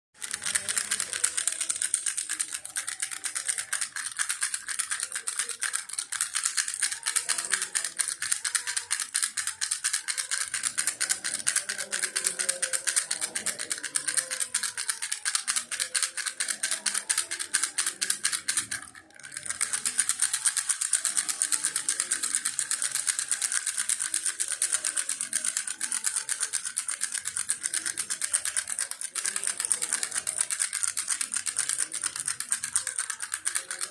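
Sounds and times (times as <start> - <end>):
baby rattle shaken: 0.2 - 33.9.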